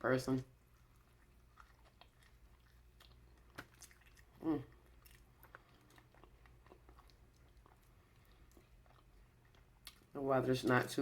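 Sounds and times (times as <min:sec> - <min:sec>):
person chewing food: 0:00.4 - 0:10.9.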